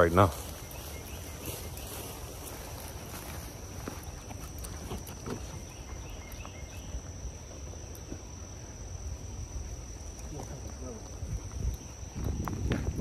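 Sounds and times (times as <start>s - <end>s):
footstep ticks and rustles: 0.0s - 13.0s
high-pitched insect trill: 0.0s - 13.0s.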